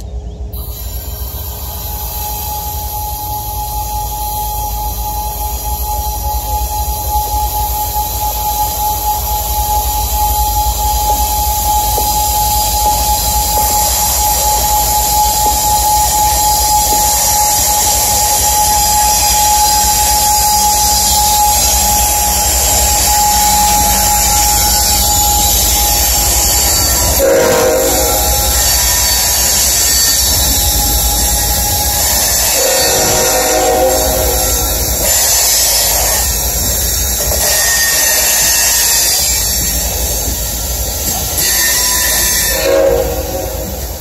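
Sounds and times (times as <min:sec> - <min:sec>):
locomotive and wheels rumbling: 0:00.0 - 0:44.0
train wheels squealing on rail: 0:00.0 - 0:44.0.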